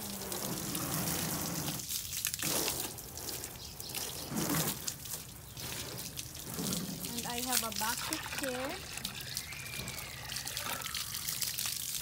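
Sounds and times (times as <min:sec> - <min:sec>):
hose water spraying on car: 0:00.0 - 0:12.0.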